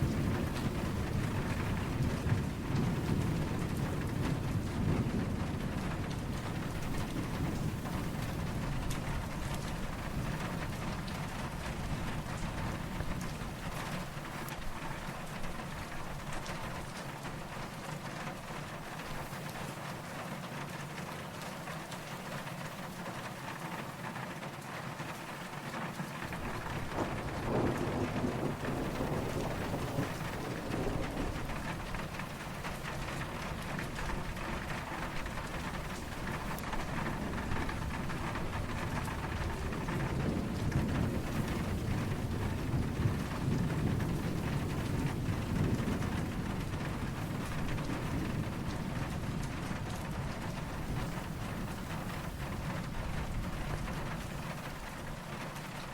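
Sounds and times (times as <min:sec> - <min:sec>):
distant thunder rumbling: 0:00.0 - 0:19.3, 0:26.2 - 0:55.9
steady rain falling: 0:00.0 - 0:55.9.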